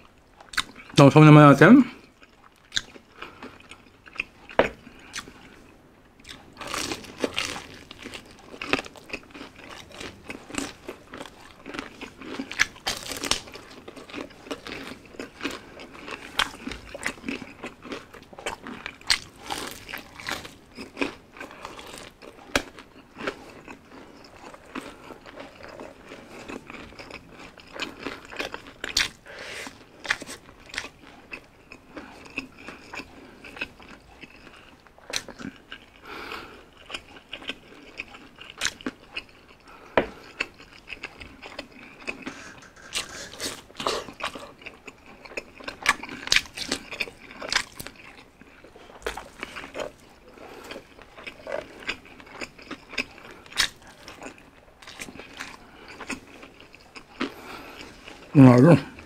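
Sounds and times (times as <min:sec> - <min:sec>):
wet chewing: 0:02.0 - 0:59.0
fried chicken crunching: 0:06.2 - 0:59.0.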